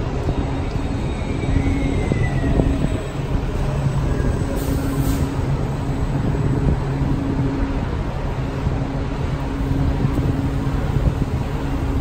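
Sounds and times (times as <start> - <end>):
pulsing low engine drone: 1.6 - 12.0.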